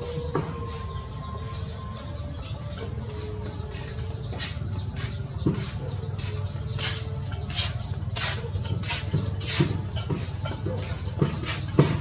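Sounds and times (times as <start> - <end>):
birds chirping and clucking: 0.0 - 12.0.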